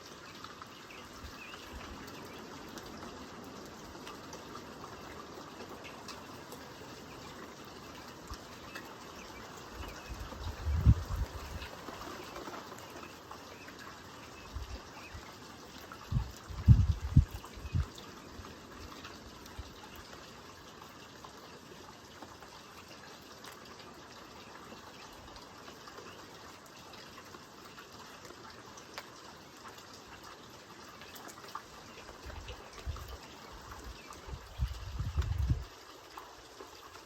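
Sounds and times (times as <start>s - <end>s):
steady rain hissing: 0.0s - 37.0s.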